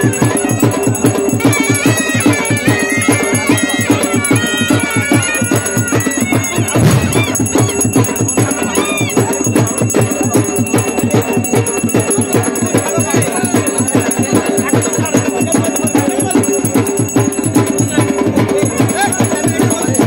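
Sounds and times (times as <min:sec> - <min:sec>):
fast drumbeat: 0:00.0 - 0:20.0
high wavering melody: 0:00.0 - 0:20.0.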